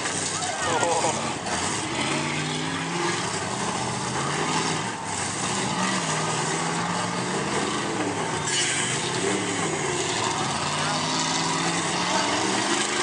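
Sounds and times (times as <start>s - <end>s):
engine and track noise: 0.0s - 13.0s
truck engines revving: 0.0s - 13.0s.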